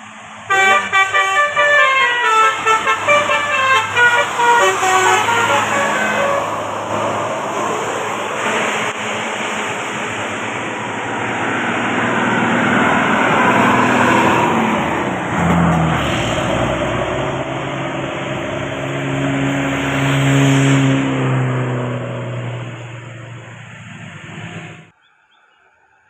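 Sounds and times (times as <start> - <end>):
bus driving by: 0.0 - 25.0
low engine note: 1.8 - 24.9.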